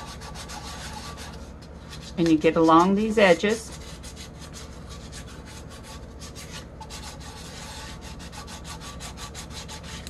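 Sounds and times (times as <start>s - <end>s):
scratchy hand sanding: 0.0s - 10.0s.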